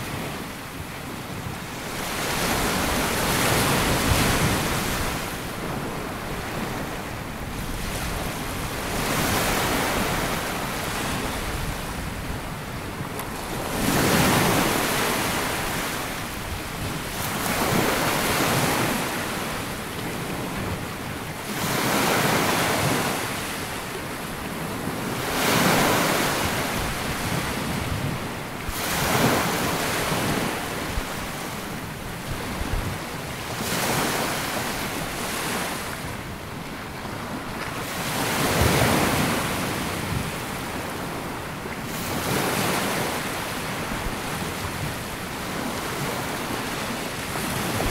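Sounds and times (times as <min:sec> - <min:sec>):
small waves breaking on beach: 0:00.0 - 0:47.9
wind buffeting microphone: 0:00.1 - 0:34.1, 0:34.8 - 0:47.9.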